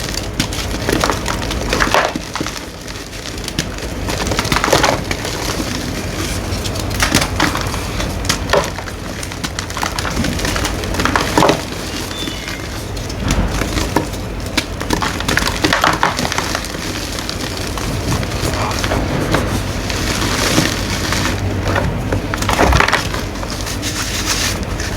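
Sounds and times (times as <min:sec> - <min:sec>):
chalk crunching and crumbling: 0:00.0 - 0:24.9.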